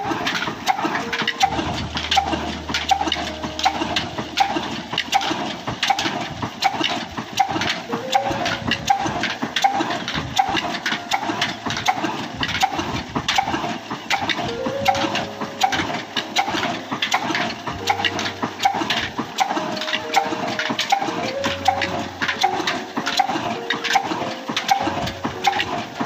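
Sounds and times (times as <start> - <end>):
clatter of clicks and knocks: 0.0 - 26.0
stationary engine exhaust beating: 0.0 - 26.0.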